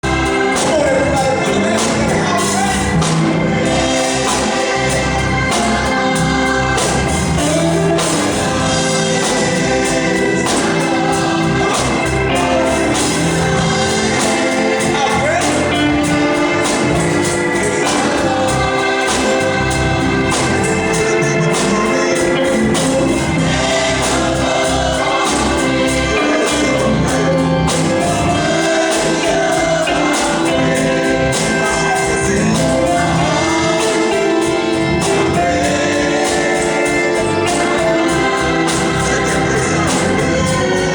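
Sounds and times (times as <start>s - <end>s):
choir singing gospel: 0.0s - 40.9s
steady drum beat: 0.0s - 40.9s.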